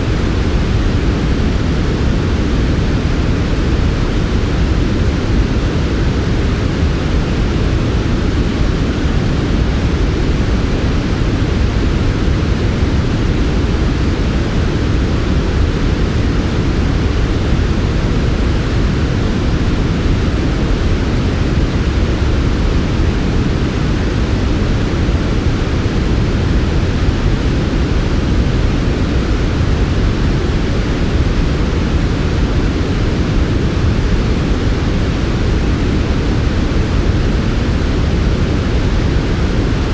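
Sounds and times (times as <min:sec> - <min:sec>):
deep soft white noise: 0:00.0 - 0:39.9.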